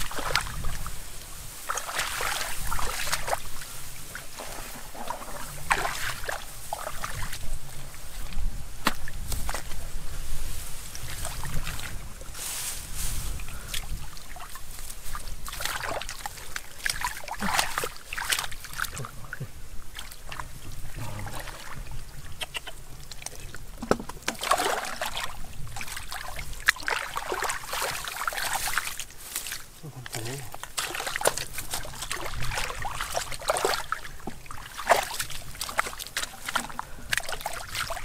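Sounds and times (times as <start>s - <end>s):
hands squelching in wet mud: 0.0s - 10.2s, 10.8s - 12.1s, 13.0s - 38.0s.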